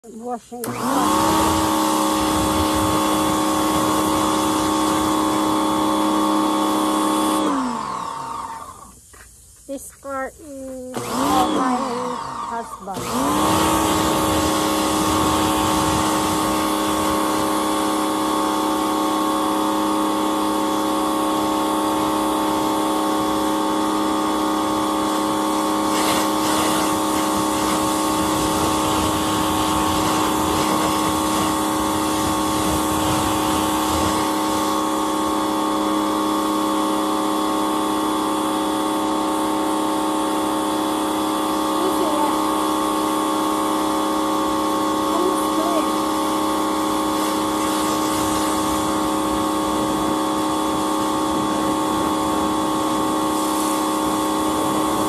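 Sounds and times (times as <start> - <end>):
high-pressure water jet hissing: 0.0 - 55.0
pressure washer pump humming: 0.0 - 55.0.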